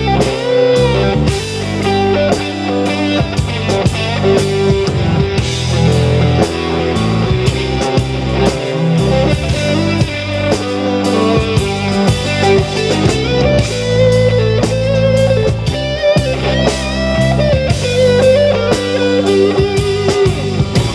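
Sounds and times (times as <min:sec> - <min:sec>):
instrumental rock band: 0:00.0 - 0:20.9.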